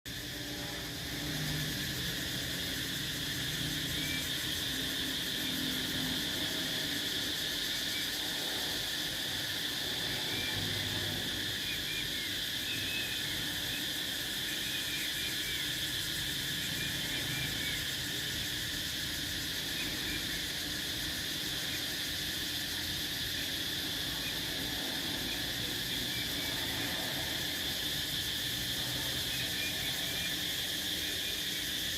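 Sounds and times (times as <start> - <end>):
cicadas droning: 0.1 - 31.9.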